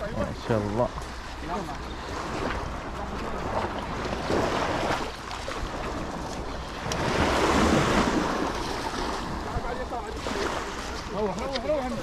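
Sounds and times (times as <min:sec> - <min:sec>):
small waves washing on shore: 0:00.0 - 0:12.0
wind rumbling on microphone: 0:00.0 - 0:12.0.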